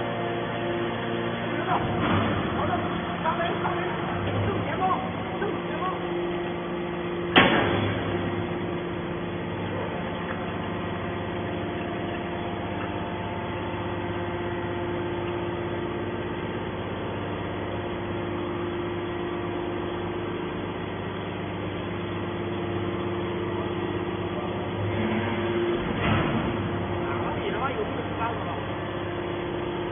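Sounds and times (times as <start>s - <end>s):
hydraulic baler humming: 0.0s - 29.9s.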